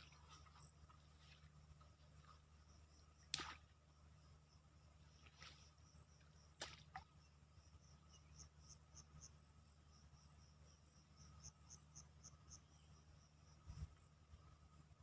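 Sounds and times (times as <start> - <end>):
insects chirping: 0.0 - 15.0
steady low hum: 0.0 - 15.0.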